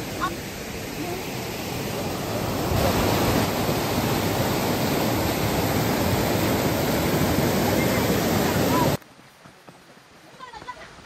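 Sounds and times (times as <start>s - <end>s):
stream cascading over boulders: 0.0s - 11.0s.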